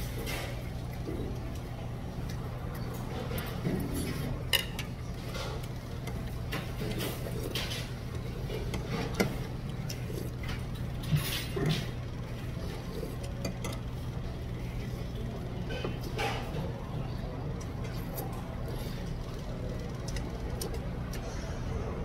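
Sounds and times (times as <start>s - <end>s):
scraping and eating noises: 0.0s - 22.0s
steady low hum: 0.0s - 22.0s.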